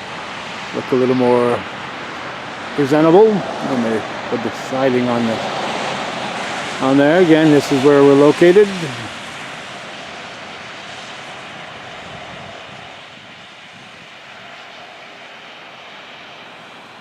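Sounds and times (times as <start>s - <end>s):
distant engine-like rushing noise: 0.0s - 17.0s.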